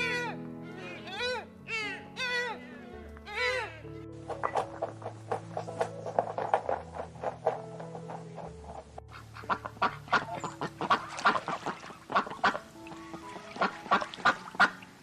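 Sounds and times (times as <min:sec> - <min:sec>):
waterfowl calling: 0:00.0 - 0:06.8, 0:09.1 - 0:15.0
light background music: 0:00.0 - 0:15.0.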